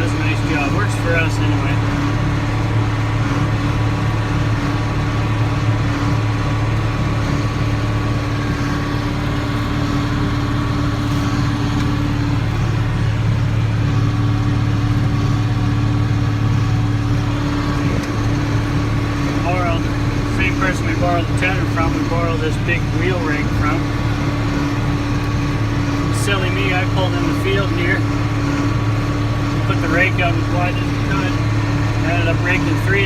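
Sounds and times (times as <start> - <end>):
tractor diesel engine droning: 0.0 - 33.0.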